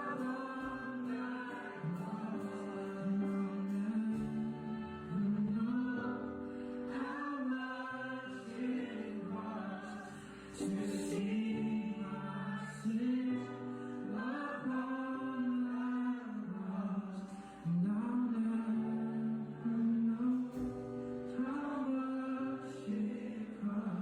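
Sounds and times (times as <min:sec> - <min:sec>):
group singing worship song: 0:00.0 - 0:24.0.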